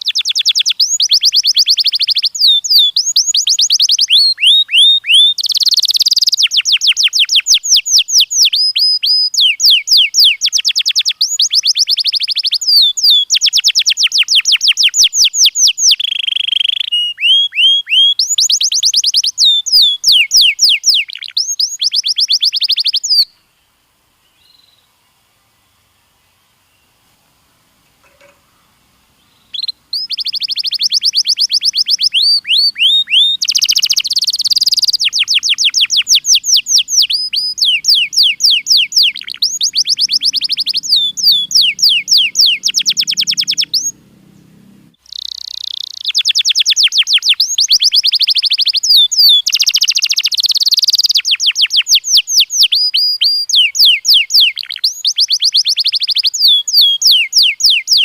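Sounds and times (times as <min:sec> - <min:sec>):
canary singing trills: 0:00.0 - 0:23.5, 0:28.0 - 0:58.0.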